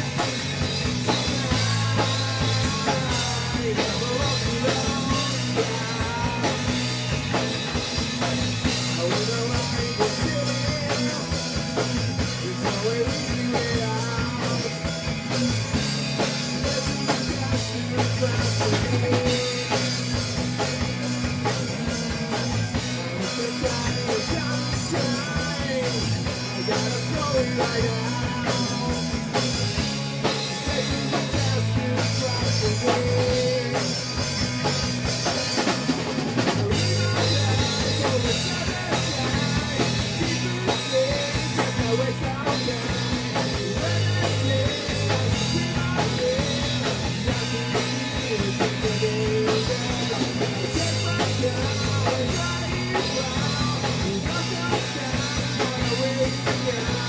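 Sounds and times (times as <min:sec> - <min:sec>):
drum kit beat: 0:00.0 - 0:57.0
rock band playing live: 0:00.0 - 0:57.0.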